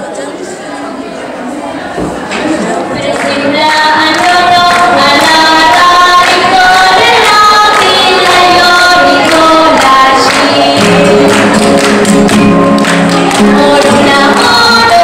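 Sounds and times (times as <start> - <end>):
group singing in unison: 2.4 - 15.0.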